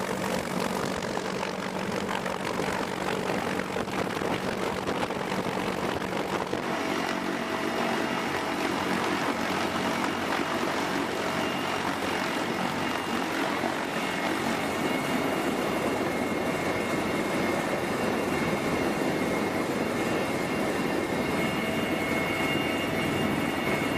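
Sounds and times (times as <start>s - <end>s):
helicopter rotor and engine noise: 0.0s - 23.9s.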